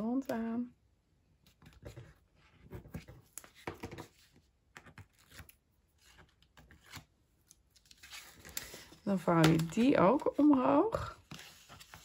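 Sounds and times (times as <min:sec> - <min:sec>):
paper rustling: 0:01.5 - 0:10.6, 0:11.2 - 0:12.0.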